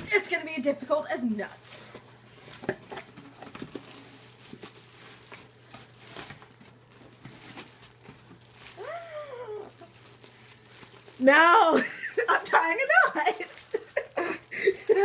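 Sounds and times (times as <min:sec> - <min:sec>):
tape and packaging rustling: 0:00.0 - 0:15.0.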